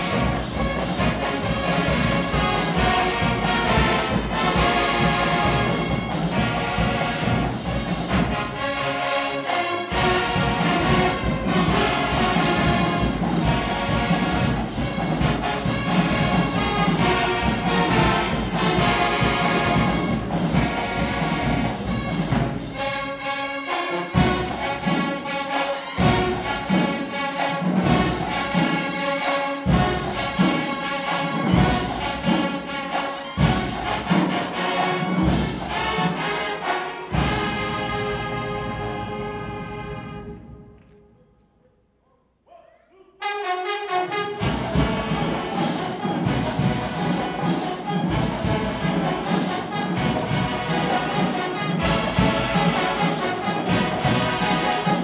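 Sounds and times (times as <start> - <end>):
marching band brass playing: 0.0 - 40.9, 43.1 - 55.0.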